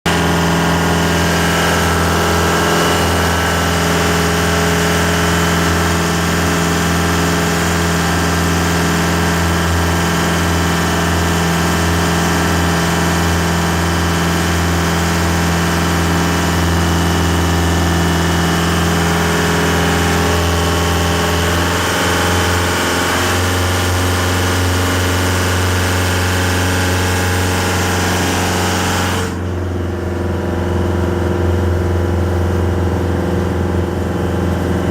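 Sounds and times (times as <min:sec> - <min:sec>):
boat engine running: 0:00.0 - 0:34.9.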